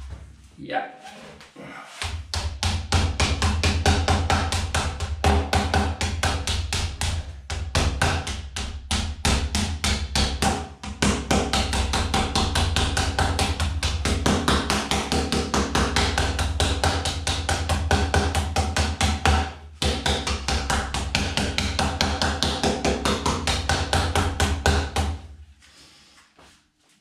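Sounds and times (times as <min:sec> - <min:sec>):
rubber mallet tapping: 0:02.0 - 0:25.2.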